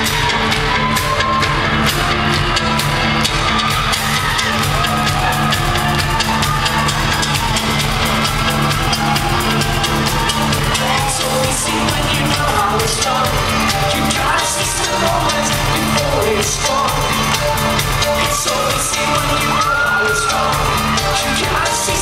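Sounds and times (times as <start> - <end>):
drum kit beat: 0.0 - 22.0
live rock band playing: 0.0 - 22.0.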